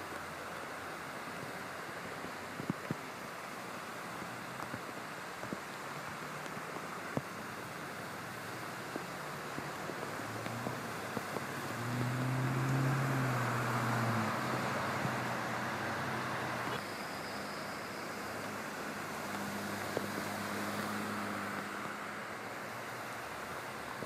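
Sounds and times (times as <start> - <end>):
tyres splashing water spray: 0.0 - 24.0
vehicles driving through floodwater: 0.0 - 24.0
vehicle engines running: 4.1 - 24.0.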